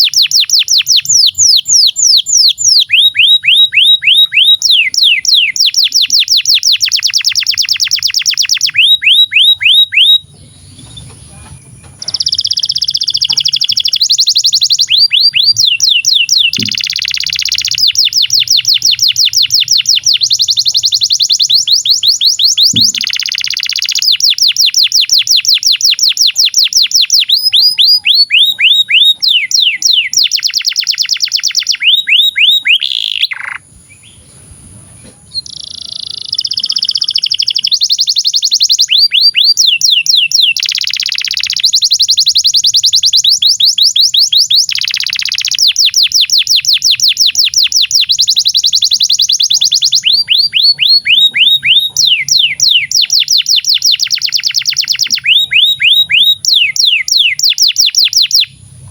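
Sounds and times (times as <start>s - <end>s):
canary singing fast trills: 0.0s - 58.9s.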